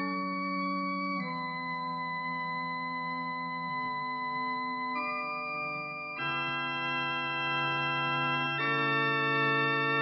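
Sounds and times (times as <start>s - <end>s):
sustained electric organ chord: 0.0s - 10.0s.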